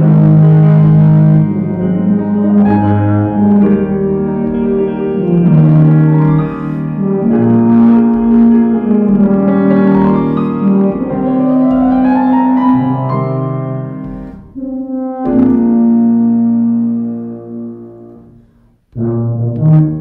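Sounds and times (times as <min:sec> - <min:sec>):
grand piano accompaniment: 0:00.0 - 0:20.0
tuba low notes: 0:00.0 - 0:20.0.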